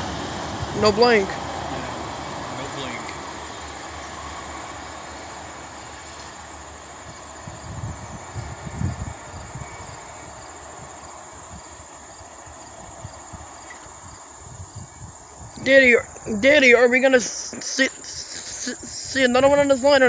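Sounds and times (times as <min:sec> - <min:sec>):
high insect trill: 0:00.0 - 0:20.0
train rumble and wheel noise: 0:00.0 - 0:20.0.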